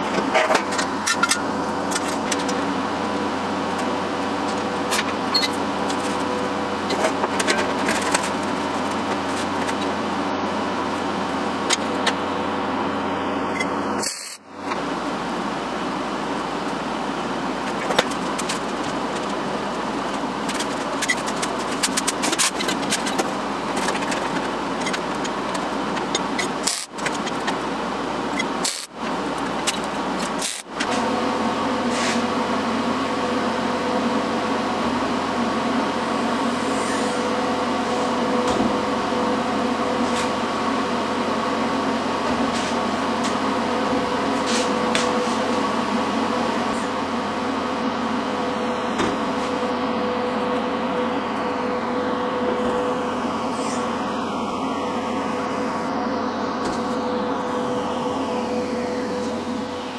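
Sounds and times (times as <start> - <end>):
steady mechanical hum: 0.0 - 59.9.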